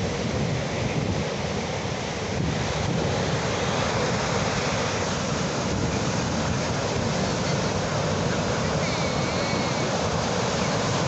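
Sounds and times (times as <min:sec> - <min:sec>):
ocean surf washing in: 0:00.0 - 0:11.0.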